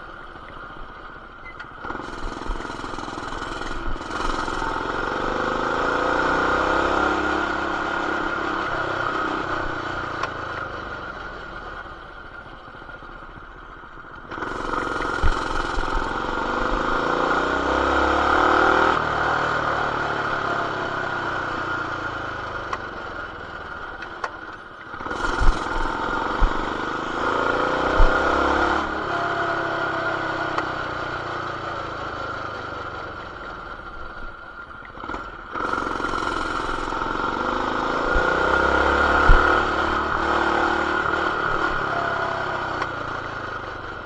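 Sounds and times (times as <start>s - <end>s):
mini bike engine revving: 1.8s - 11.0s, 14.2s - 33.8s, 34.9s - 44.0s.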